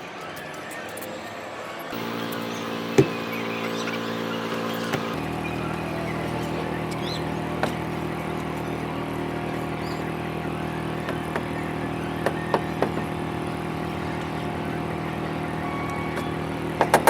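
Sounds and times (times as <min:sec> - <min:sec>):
router cutting wood: 0:01.9 - 0:17.0.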